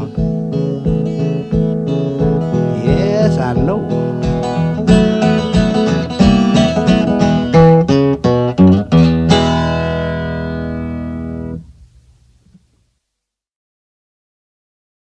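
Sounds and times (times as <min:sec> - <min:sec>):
acoustic blues guitar: 0:00.0 - 0:12.6.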